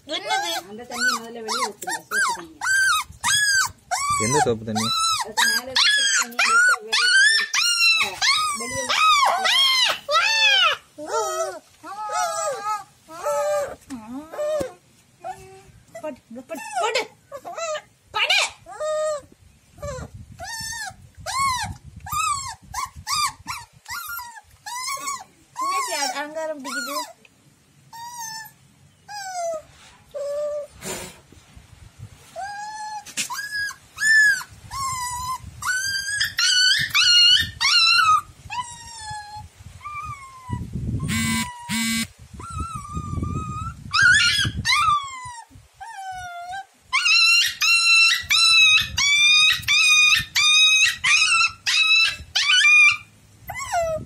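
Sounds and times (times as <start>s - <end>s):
puppy whining and yelping: 0.0s - 27.3s, 27.9s - 30.8s, 32.2s - 54.0s.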